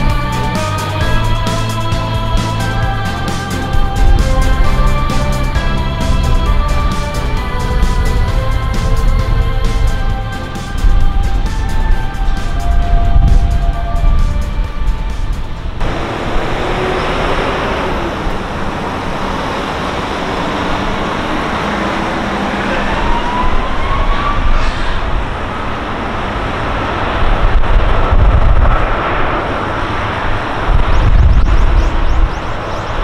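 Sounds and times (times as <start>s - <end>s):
jet engines roaring on takeoff: 0.0s - 33.0s.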